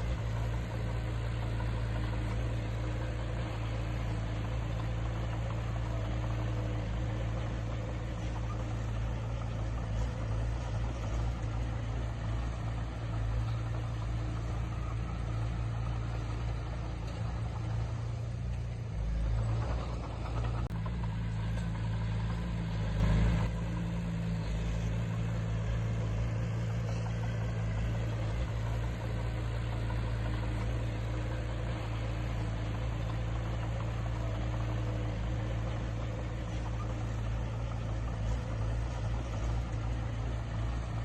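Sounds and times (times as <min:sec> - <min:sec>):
diesel engine of heavy machinery: 0:00.0 - 0:41.0.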